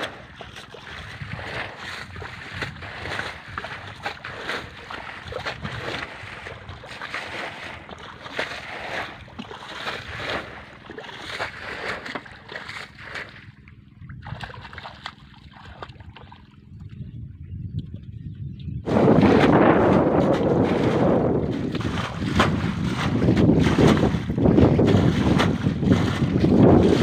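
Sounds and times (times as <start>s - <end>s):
rippling water: 0.0s - 17.2s, 18.8s - 27.0s
faint low rumble: 0.0s - 27.0s
wind: 0.0s - 27.0s.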